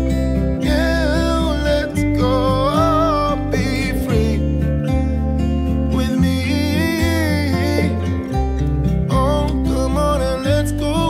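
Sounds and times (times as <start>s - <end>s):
acoustic guitar song: 0.0s - 11.0s
steady bass: 0.0s - 11.0s.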